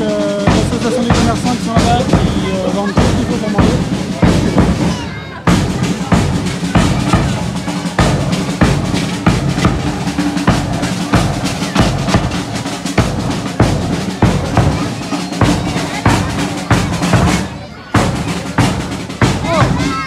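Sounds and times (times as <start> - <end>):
samba drum group playing: 0.0 - 20.0.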